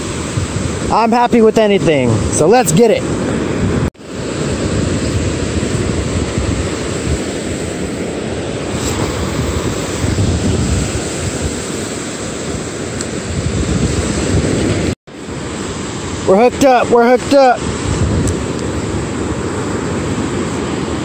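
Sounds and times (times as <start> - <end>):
ocean surf washing up: 0.0 - 21.0
wind buffeting microphone: 0.0 - 21.0.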